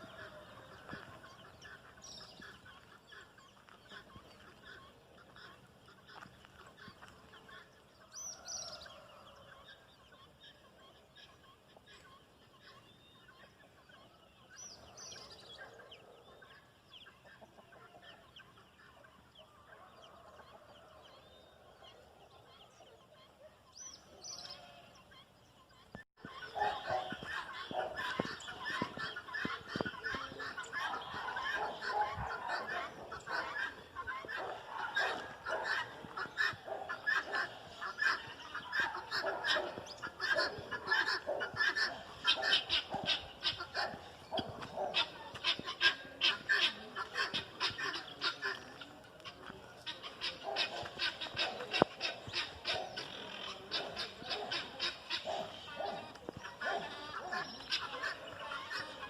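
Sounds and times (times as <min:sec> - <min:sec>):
faint chickens clucking: 0:00.0 - 0:59.0.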